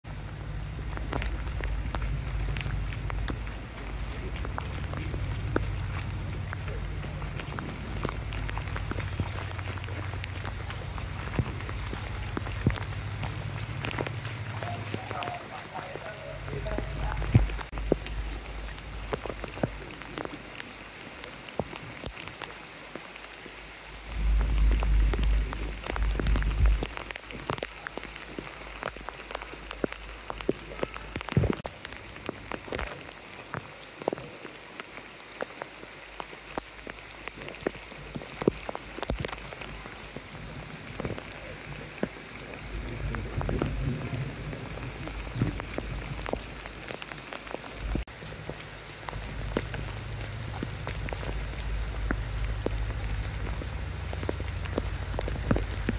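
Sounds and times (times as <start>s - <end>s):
low rumble: 0.0s - 20.7s, 24.0s - 32.6s, 39.4s - 55.9s
drips and splashes: 0.0s - 55.9s
heavy rain on wet street: 0.0s - 55.9s.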